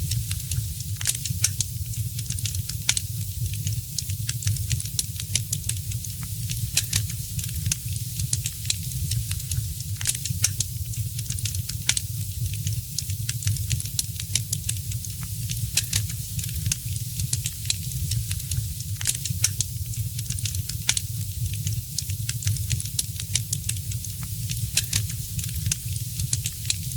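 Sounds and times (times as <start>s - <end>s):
fireplace fire crackling: 0.0s - 26.9s.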